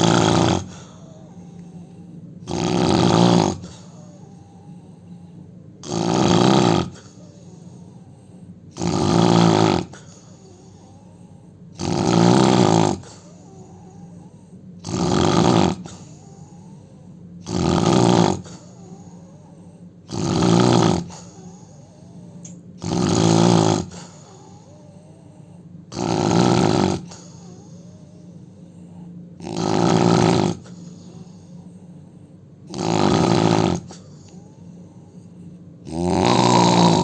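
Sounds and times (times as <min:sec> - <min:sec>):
man snoring: 0:00.0 - 0:37.0.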